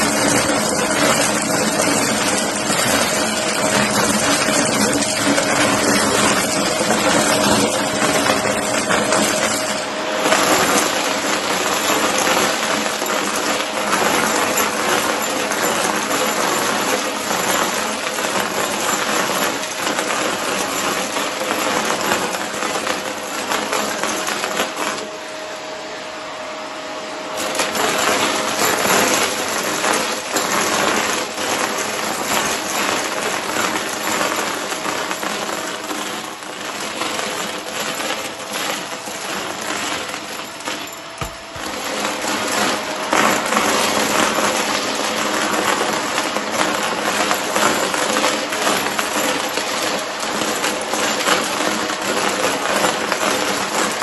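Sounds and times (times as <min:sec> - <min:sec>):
cardboard rattling through vacuum: 0:00.0 - 0:25.6, 0:27.3 - 0:54.0
vacuum cleaner humming: 0:00.0 - 0:54.0.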